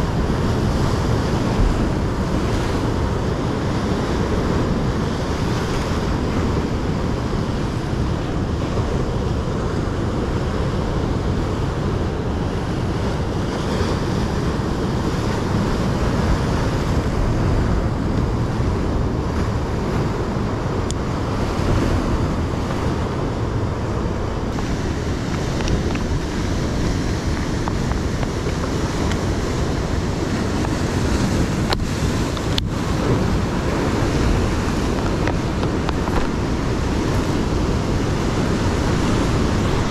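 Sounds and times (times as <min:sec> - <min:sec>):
surf breaking over rocks: 0:00.0 - 0:39.9
wind buffeting microphone: 0:00.0 - 0:39.9.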